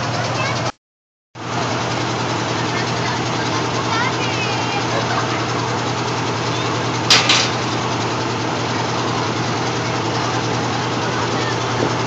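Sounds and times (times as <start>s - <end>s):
train engine idling: 0.0s - 0.7s, 1.4s - 12.0s.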